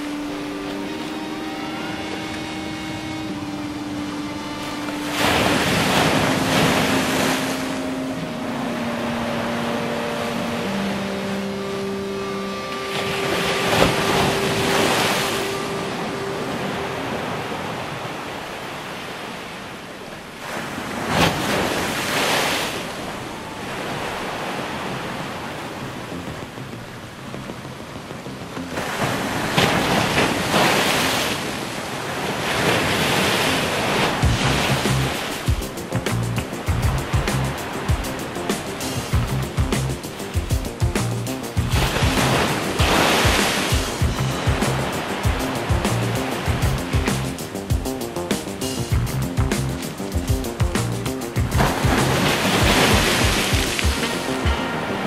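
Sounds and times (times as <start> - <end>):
waves breaking on seawall: 0.0 - 8.4, 12.6 - 27.0, 28.6 - 55.0
surf hissing: 0.0 - 27.2, 28.8 - 55.0.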